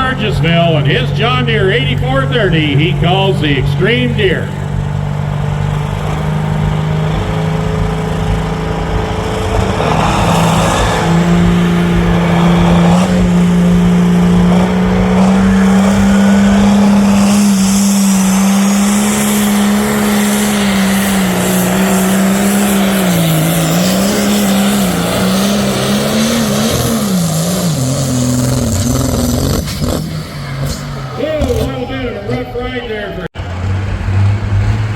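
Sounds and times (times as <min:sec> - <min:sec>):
tractor diesel engine labouring: 0:00.0 - 0:34.9.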